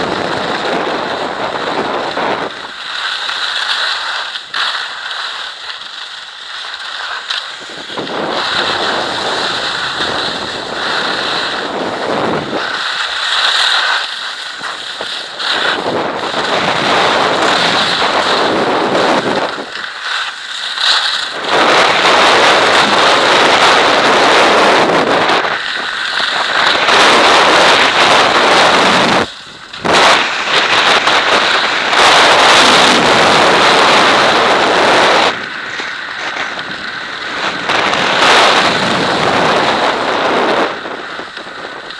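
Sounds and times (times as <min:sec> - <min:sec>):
wind rushing over microphone: 0:00.0 - 0:04.8, 0:07.1 - 0:41.9
skis scraping on snow: 0:00.0 - 0:41.9.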